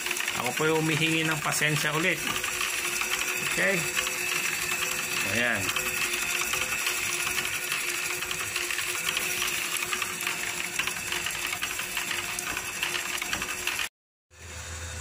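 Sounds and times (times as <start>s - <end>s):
gears clicking: 0.0s - 13.9s
rotisserie motor hum: 0.0s - 15.0s.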